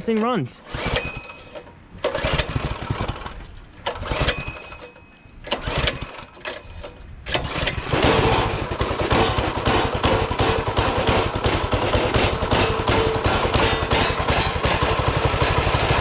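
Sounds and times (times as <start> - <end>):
go-kart engine cranking and running: 0.1 - 16.0.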